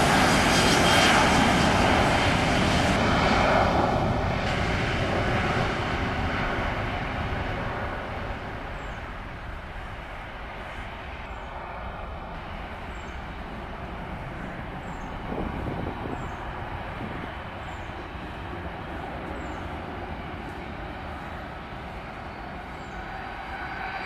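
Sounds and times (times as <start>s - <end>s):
jet engine noise: 0.0s - 24.0s.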